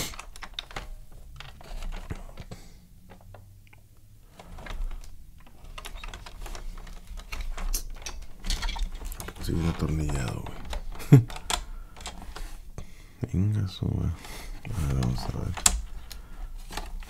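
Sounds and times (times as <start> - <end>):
plastic toy clicks and knocks: 0.0 - 3.8, 4.4 - 12.5, 14.5 - 17.0.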